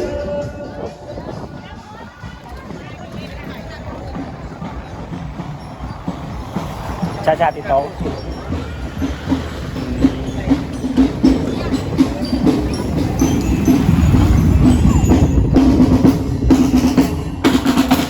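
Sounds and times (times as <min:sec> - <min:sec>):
drums beating quickly: 0:00.0 - 0:18.0.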